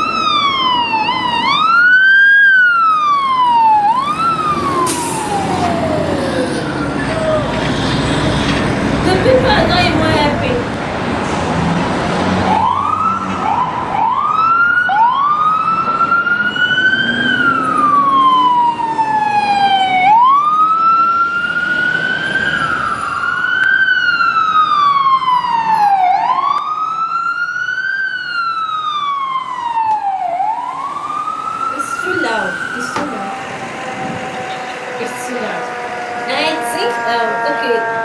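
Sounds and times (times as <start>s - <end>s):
fire engine sirens wailing: 0.0s - 38.0s.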